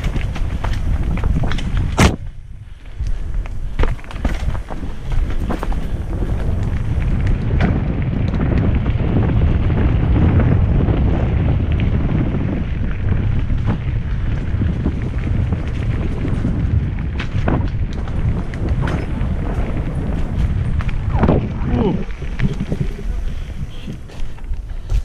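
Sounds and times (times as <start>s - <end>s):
bike clacking over bumps: 0.0s - 25.0s
low rumble of bike on dirt: 0.0s - 25.0s
wind rushing over microphone: 0.0s - 25.0s.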